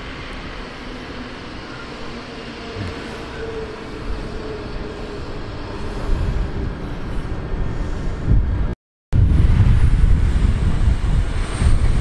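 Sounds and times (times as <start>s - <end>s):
train running with faint whine: 0.0s - 12.0s.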